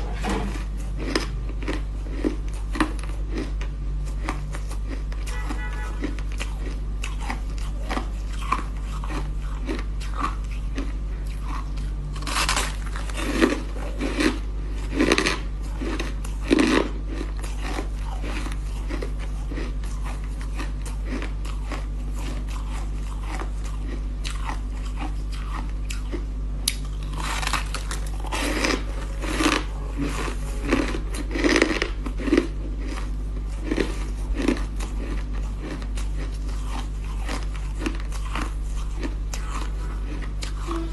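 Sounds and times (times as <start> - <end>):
chewing: 0.0 - 40.9
steady low hum: 0.0 - 40.9.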